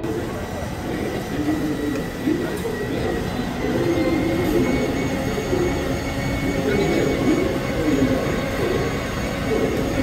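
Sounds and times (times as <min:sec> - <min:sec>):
crowd chatter: 0:00.0 - 0:10.0
traffic: 0:00.0 - 0:10.0.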